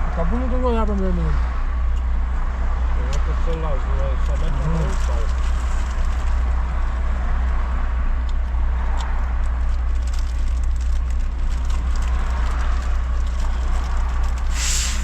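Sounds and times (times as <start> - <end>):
car rumble inside cabin: 0.0 - 15.0.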